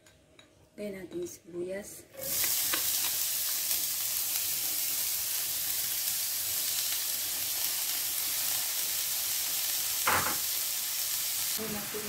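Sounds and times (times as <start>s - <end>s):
onions sizzling in oil: 2.2s - 12.0s.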